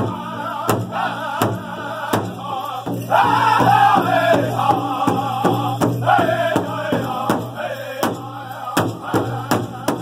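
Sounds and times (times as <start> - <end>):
drum group singing: 0.0 - 10.0
large bass drum beating: 0.0 - 10.0.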